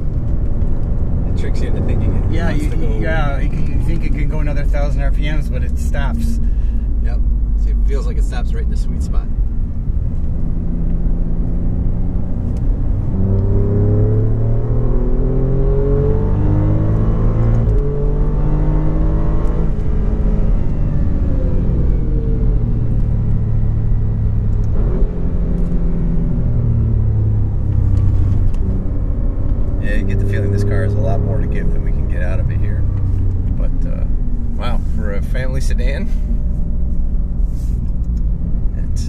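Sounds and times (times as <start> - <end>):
car engine at speed: 0.0 - 39.0.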